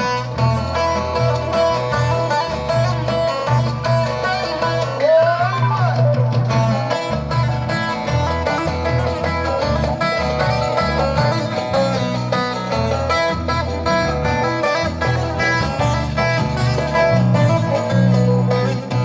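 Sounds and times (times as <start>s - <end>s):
pulsing bass line: 0.0s - 5.0s, 5.6s - 19.0s
plucked string instruments melody: 0.0s - 19.0s.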